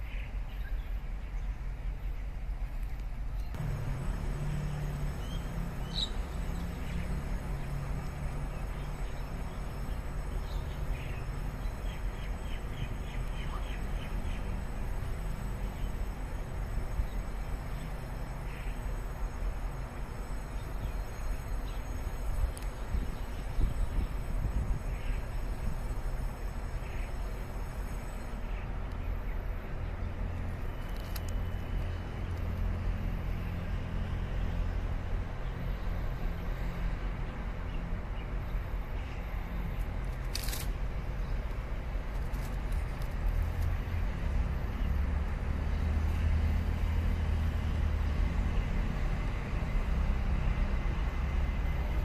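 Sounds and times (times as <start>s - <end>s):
trains rumbling: 1.7s - 52.0s.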